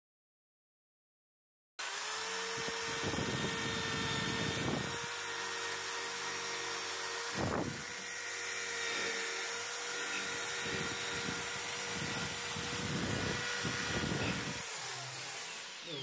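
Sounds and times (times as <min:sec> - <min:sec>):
power tool motor whine: 0:01.8 - 0:16.0.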